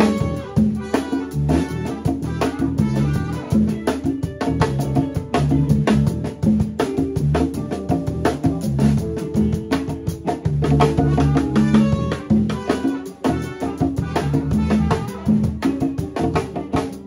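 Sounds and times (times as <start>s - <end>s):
funk band playing: 0.0s - 17.0s.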